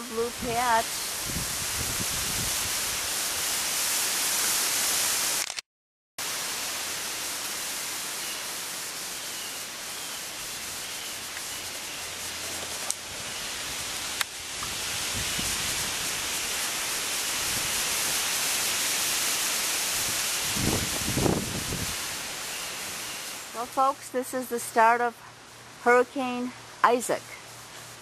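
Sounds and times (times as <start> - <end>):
wind rushing through trees: 0.0 - 5.4, 6.2 - 25.9.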